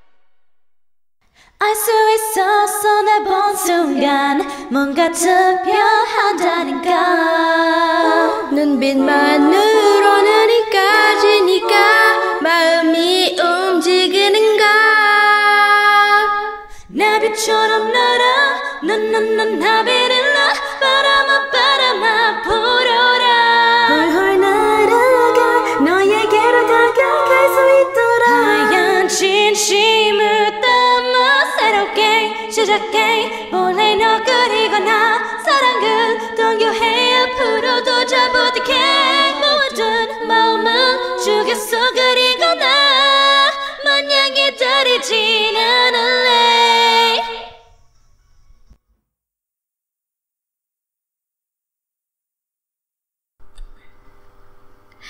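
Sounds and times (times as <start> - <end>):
women singing a cappella harmony: 1.6 - 47.7.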